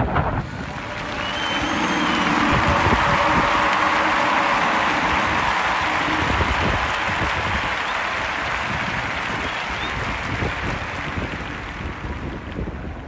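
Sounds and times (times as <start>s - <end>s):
electric train rushing noise: 0.3s - 12.9s.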